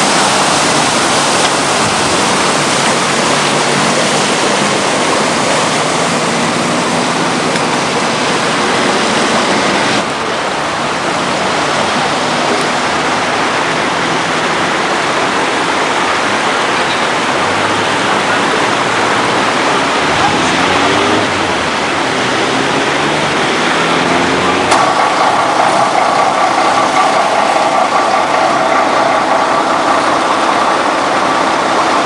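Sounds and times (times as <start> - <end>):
floodwater rushing: 0.0 - 32.0.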